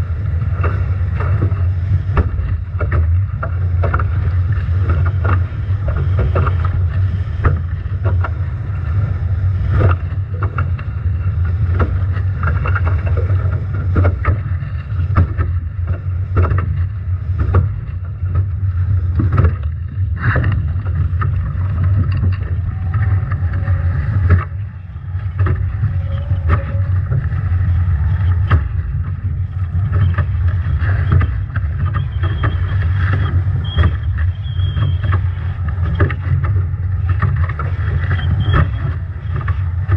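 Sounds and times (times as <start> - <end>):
water slapping against boat: 0.0 - 39.9.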